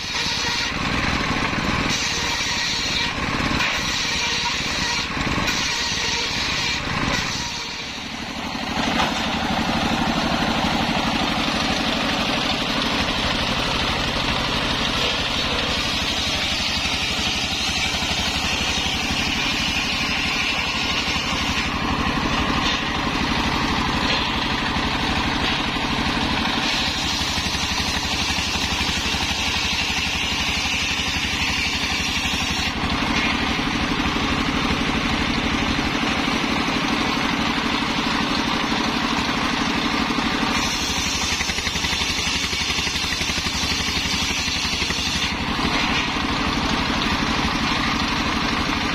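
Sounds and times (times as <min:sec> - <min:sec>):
circular saw cutting wood: 0:00.0 - 0:48.9
diesel engine running: 0:00.0 - 0:48.9.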